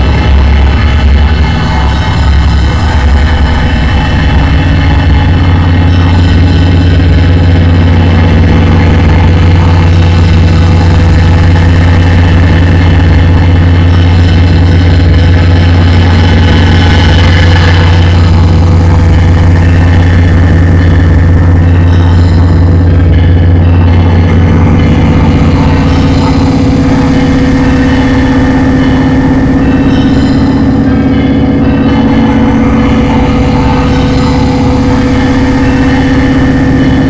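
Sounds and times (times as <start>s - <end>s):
dark ambient noise music: 0.0s - 37.0s.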